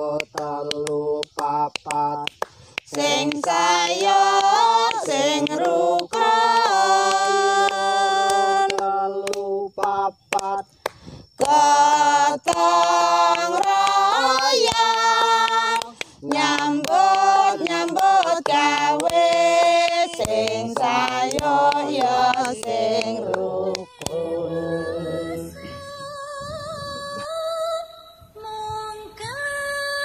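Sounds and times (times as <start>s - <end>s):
song with sung vocals: 0.0s - 30.0s.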